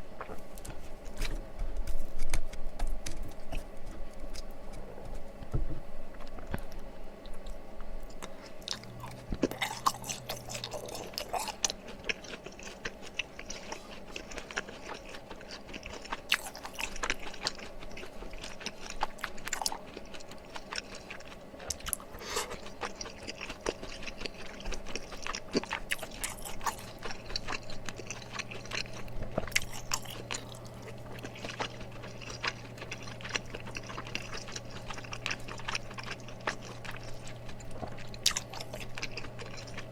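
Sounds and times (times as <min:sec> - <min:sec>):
person chewing and biting: 0:06.2 - 0:39.9.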